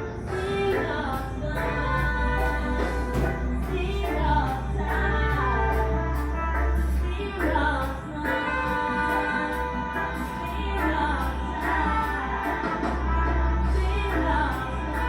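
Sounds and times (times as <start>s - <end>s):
song with singing over a band: 0.0s - 15.0s
steady bass line: 0.0s - 15.0s.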